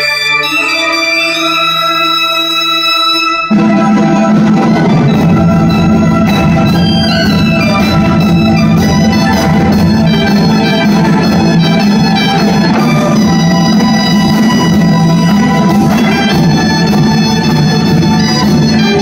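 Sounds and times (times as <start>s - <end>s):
wind instrument high melody: 0.0s - 19.0s
strings holding low chords: 3.5s - 19.0s.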